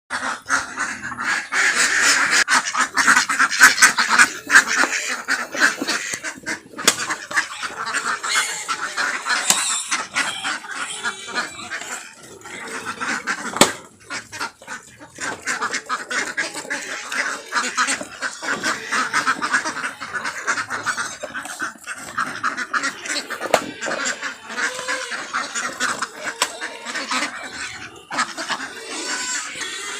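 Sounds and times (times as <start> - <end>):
pigs squealing and grunting: 0.1 - 29.9.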